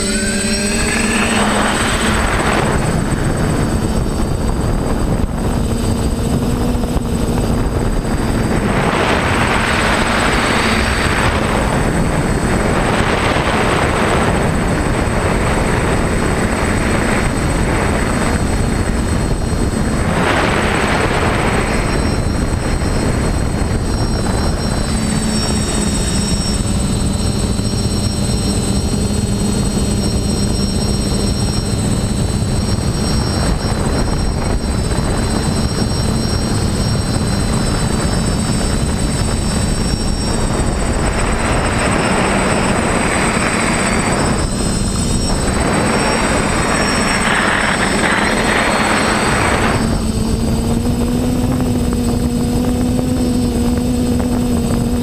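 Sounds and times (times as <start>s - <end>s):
propeller rushing noise: 0.0s - 55.0s
quadcopter motor whine: 0.0s - 55.0s.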